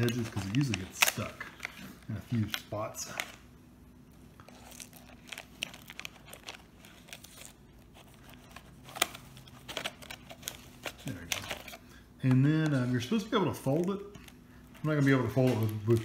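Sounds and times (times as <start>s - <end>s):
foil tray crinkling: 0.0s - 3.4s, 4.4s - 16.0s.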